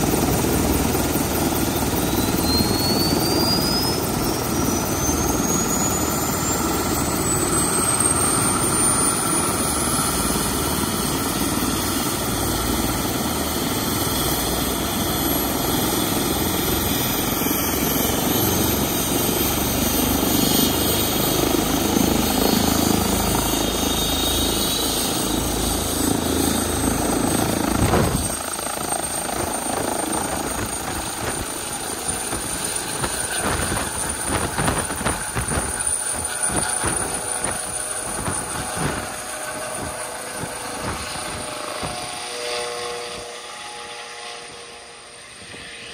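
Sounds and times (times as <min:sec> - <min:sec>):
helicopter rotor low rumble: 0:00.0 - 0:45.9
helicopter turbine whine: 0:00.0 - 0:45.9.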